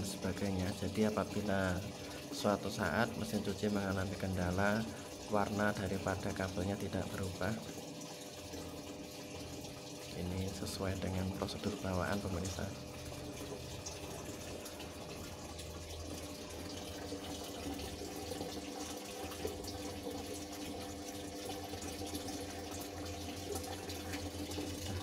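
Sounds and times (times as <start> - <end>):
washing machine humming: 0.0 - 25.0
water rushing into tub: 0.0 - 25.0.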